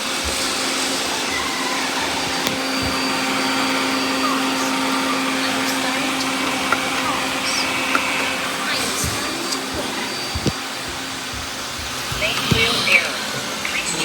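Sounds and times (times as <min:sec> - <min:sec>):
robot vacuums whirring: 0:00.0 - 0:14.0.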